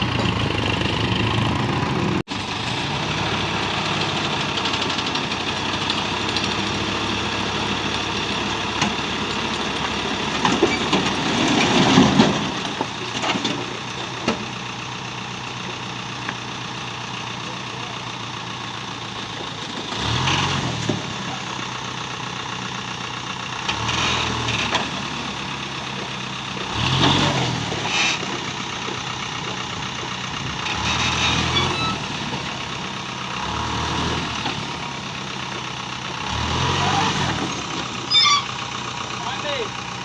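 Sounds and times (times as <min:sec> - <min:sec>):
truck engine idling and revving: 0:00.0 - 0:40.0.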